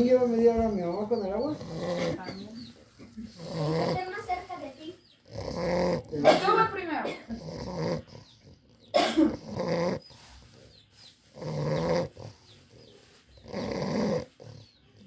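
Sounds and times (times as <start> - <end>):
dog snoring loudly: 0.0 - 10.4, 11.2 - 15.0.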